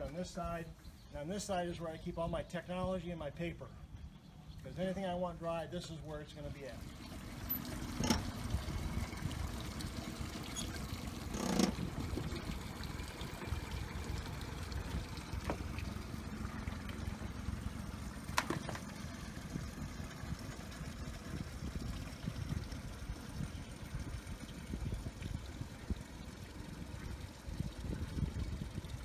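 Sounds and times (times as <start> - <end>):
propeller churning water: 0.0 - 29.0
outboard motor running: 3.9 - 29.0.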